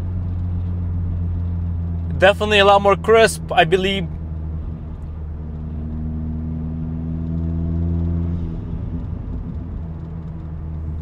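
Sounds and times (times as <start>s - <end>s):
car engine drone inside cabin: 0.0s - 11.0s.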